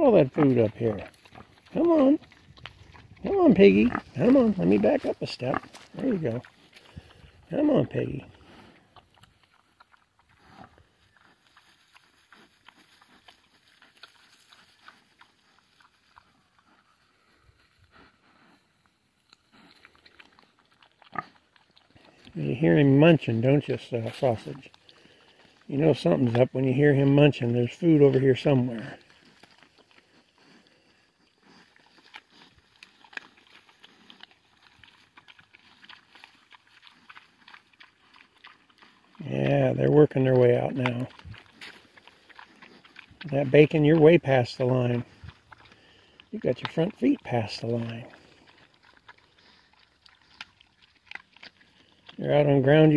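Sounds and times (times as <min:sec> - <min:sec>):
pig chewing acorns: 0:00.0 - 0:52.9.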